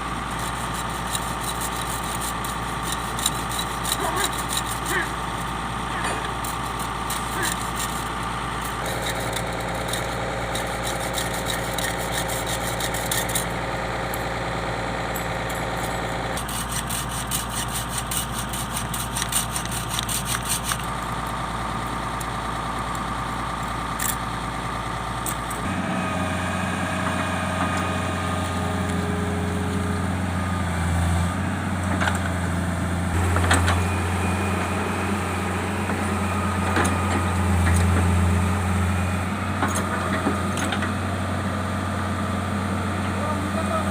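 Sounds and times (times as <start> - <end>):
excavator diesel engine: 0.0 - 43.9.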